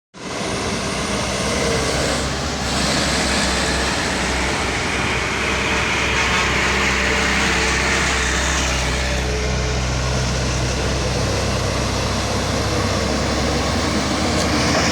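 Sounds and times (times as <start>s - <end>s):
heavy truck engine at full throttle: 0.2s - 14.9s
road noise: 0.2s - 14.9s.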